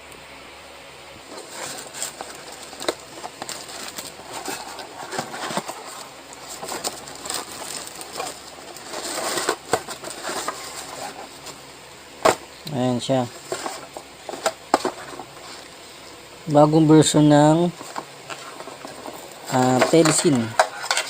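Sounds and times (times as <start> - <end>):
packaging rustling and crinkling: 1.2 - 16.2, 17.0 - 21.0.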